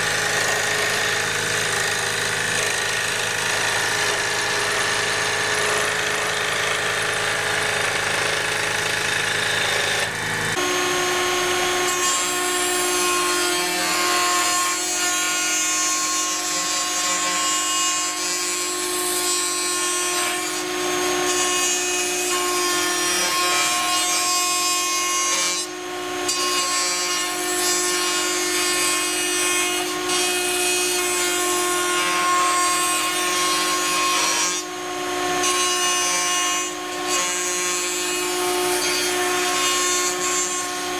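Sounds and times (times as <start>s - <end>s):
power tool cutting wood: 0.0s - 40.9s.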